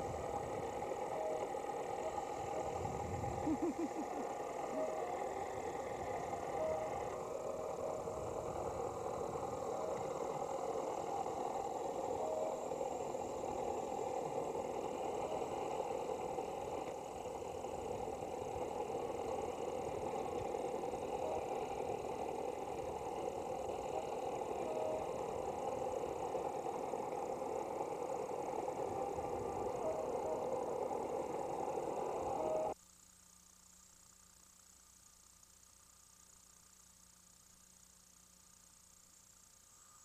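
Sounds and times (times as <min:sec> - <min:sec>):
boat engine droning: 0:00.0 - 0:32.8.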